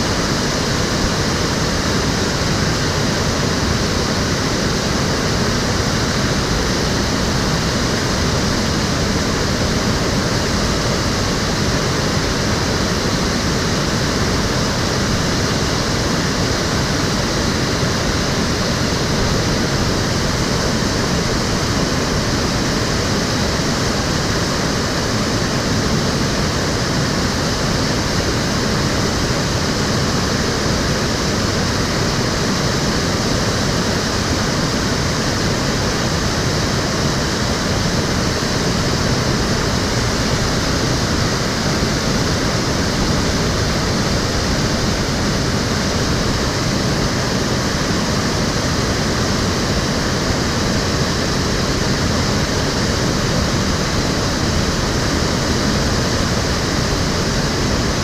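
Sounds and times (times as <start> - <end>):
water flowing in a stream: 0.0 - 58.0.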